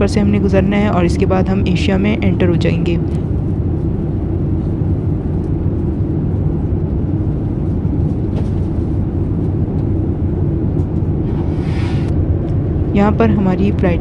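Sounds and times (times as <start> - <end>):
airflow noise: 0.0 - 14.0
airliner cabin engine rumble: 0.0 - 14.0.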